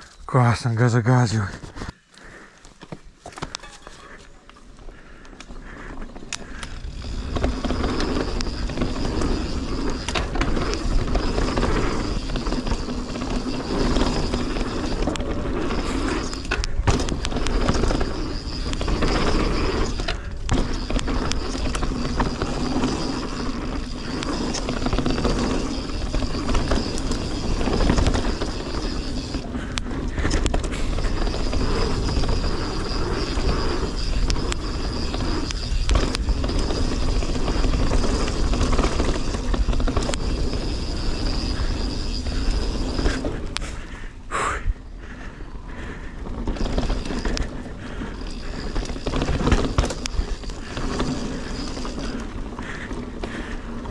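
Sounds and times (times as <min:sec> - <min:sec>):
bike rattle: 0:02.7 - 0:53.9
tyres rolling over dirt: 0:06.1 - 0:44.0, 0:46.2 - 0:53.9
faint steady whine: 0:06.4 - 0:53.8.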